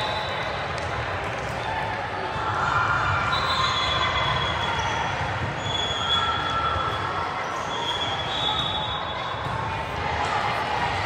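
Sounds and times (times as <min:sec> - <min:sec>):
sports hall din: 0:00.0 - 0:11.0.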